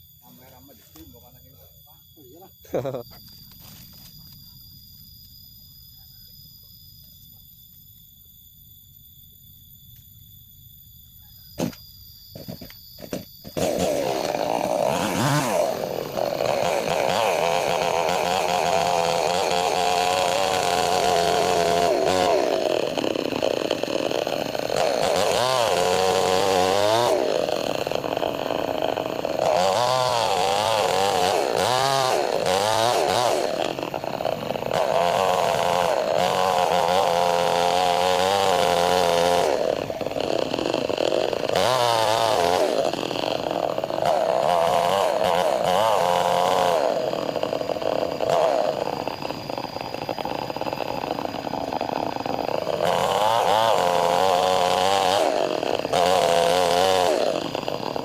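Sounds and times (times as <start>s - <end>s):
chainsaw cutting log: 11.6s - 58.0s.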